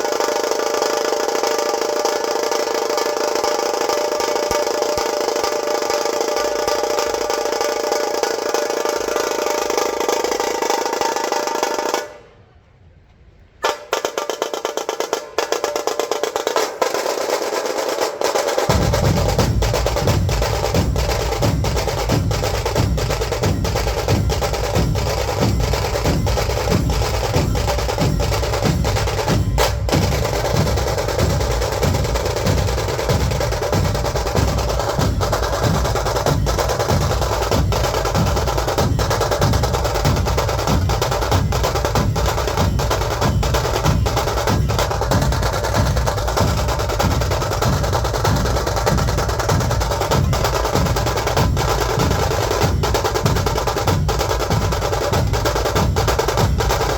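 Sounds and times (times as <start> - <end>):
barrel drums heavy beat: 0.0 - 12.0, 13.6 - 56.9
snare drums rolling: 0.0 - 12.2, 13.6 - 56.9.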